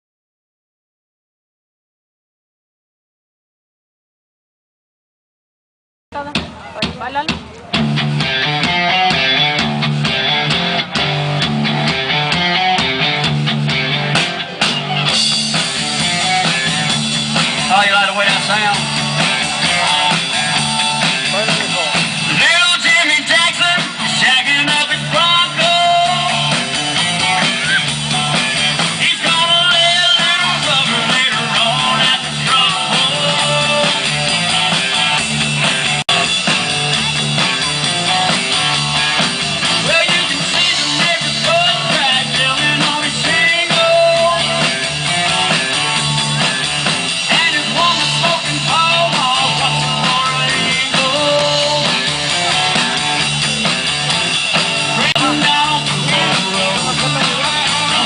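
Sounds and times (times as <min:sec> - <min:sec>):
rock music with singing: 0:06.2 - 0:58.0.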